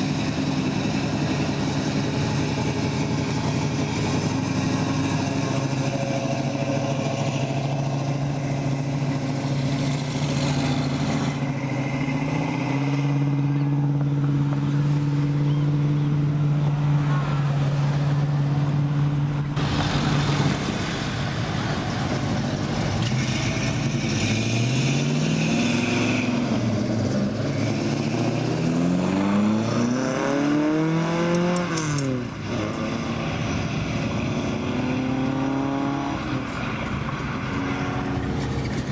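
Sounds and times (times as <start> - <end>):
car engines droning: 0.0 - 38.9
car engines revving: 0.0 - 38.9.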